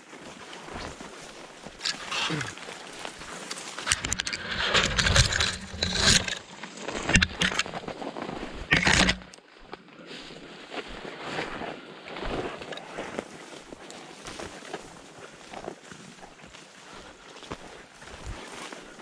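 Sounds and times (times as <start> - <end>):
footsteps in undergrowth: 0.0 - 19.0
rustling through undergrowth: 0.0 - 19.0.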